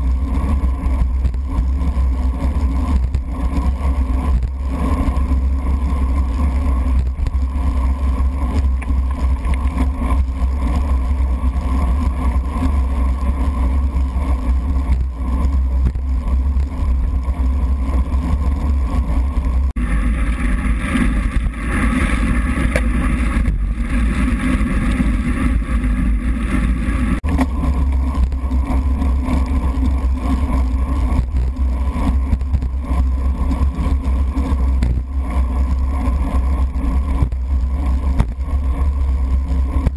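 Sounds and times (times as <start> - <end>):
road rumble: 0.0 - 39.9.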